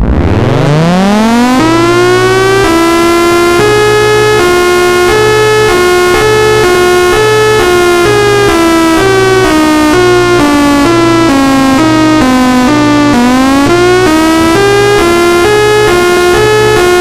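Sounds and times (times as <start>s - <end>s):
civil defense siren: 0.0s - 17.0s.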